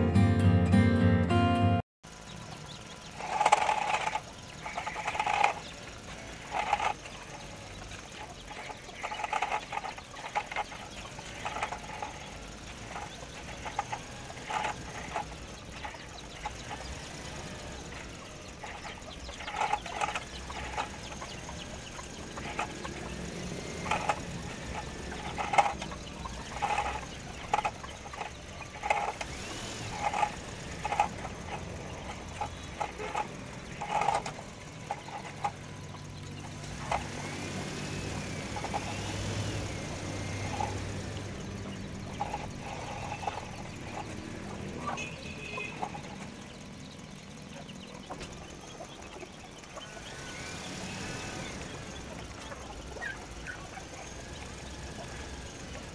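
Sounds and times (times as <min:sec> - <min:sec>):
chickens clucking: 0:02.1 - 0:55.9
toy truck electric motor whir: 0:02.1 - 0:55.9.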